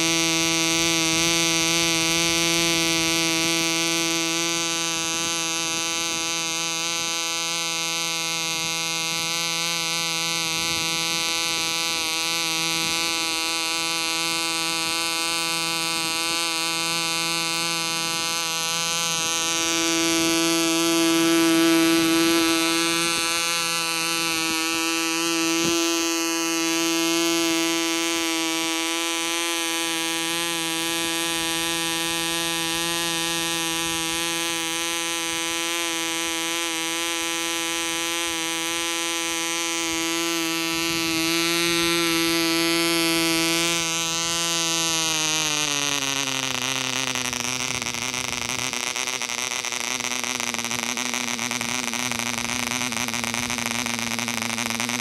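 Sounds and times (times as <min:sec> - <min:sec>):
model engine high-pitched drone: 0:00.0 - 0:55.0.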